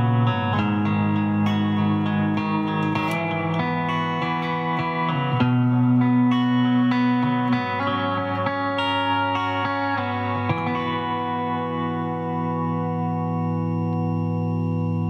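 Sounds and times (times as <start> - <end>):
ambient electric guitar chords: 0.0 - 15.0.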